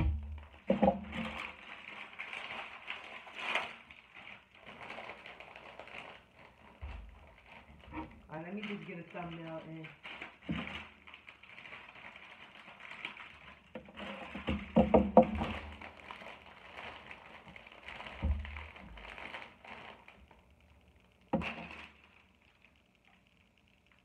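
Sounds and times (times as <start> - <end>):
plastic packets crinkling: 0.0 - 24.0.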